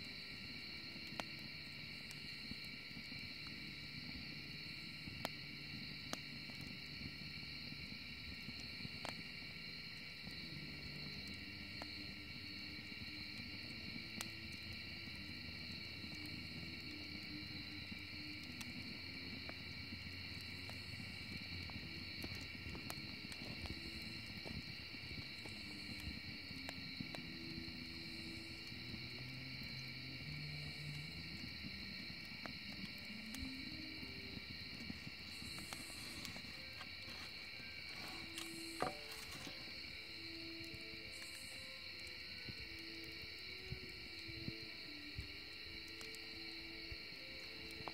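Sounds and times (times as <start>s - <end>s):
crickets trilling: 0.0s - 47.9s
insects chirring: 0.0s - 47.9s
wood fire rumbling and popping: 0.0s - 47.9s.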